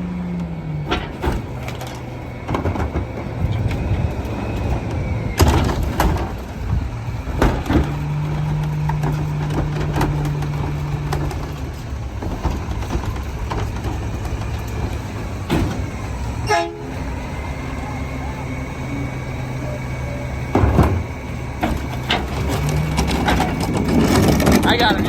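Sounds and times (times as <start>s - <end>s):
garbage truck engine running: 0.0s - 25.0s.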